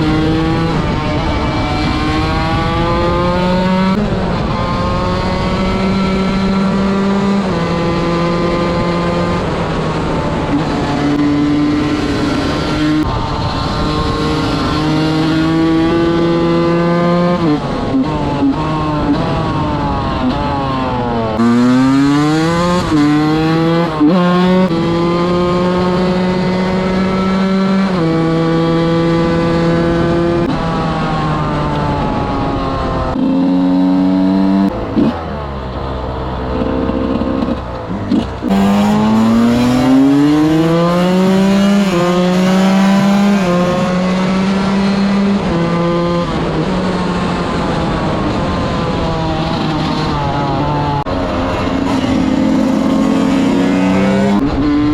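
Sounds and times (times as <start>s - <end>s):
motorcycle engine revving high: 0.0s - 54.9s.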